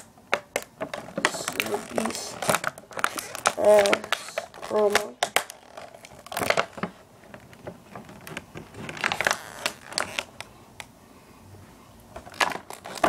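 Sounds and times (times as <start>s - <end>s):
packaging rustling and crackling: 0.0s - 10.5s, 12.2s - 13.0s.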